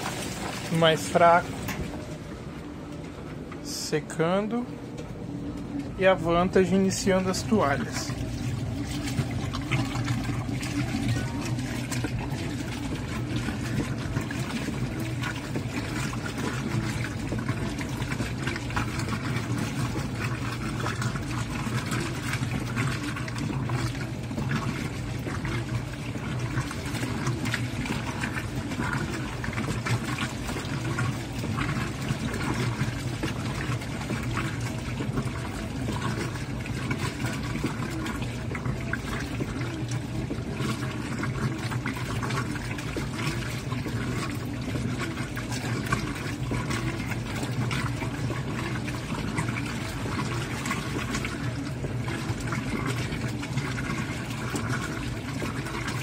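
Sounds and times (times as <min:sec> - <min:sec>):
low motor hum: 0:00.0 - 0:56.0
water and laundry sloshing: 0:00.0 - 0:56.0.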